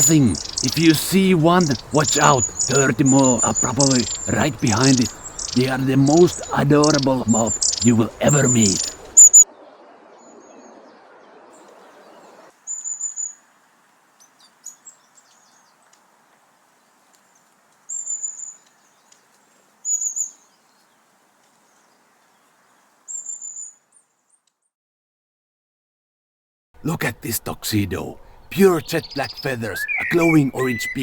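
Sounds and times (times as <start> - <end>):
small birds calling: 0.0 - 9.4, 11.6 - 13.5, 14.1 - 24.5, 26.8 - 31.0.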